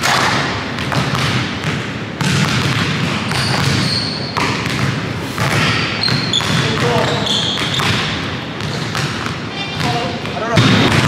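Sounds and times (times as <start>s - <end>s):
basketballs bouncing on hardwood: 0.0s - 11.0s.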